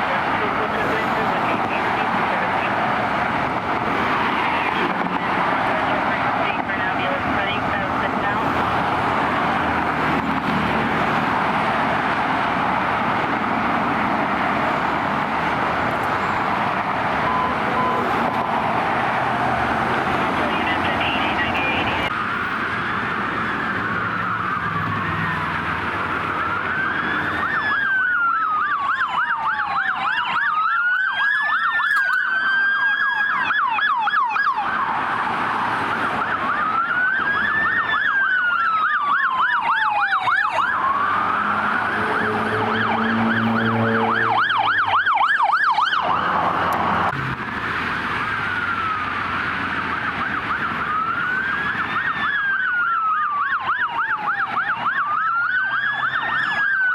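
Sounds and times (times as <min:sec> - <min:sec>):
police sirens wailing and yelping: 0:00.0 - 0:56.9.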